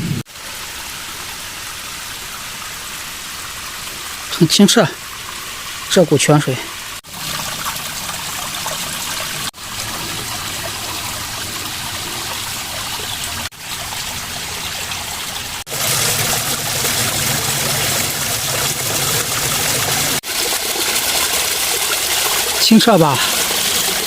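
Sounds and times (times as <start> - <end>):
water splashing down small waterfall: 0.3 - 24.0.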